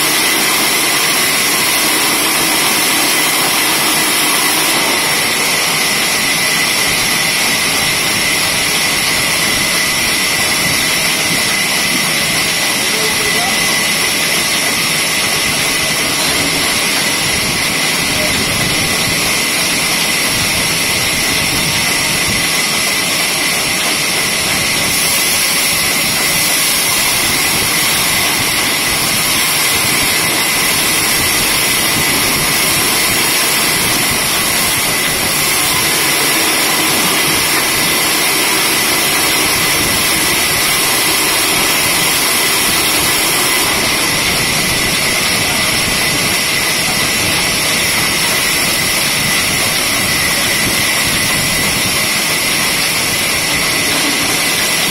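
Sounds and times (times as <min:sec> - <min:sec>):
band saw cutting log: 0:00.0 - 0:54.9.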